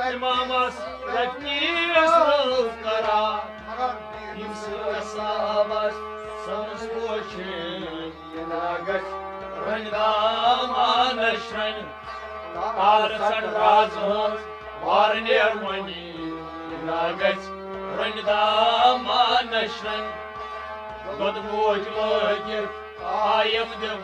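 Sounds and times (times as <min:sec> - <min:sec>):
man singing: 0:00.0 - 0:20.2, 0:21.0 - 0:24.0
bowed string instrument: 0:00.0 - 0:24.0
harmonium chords: 0:00.0 - 0:24.0.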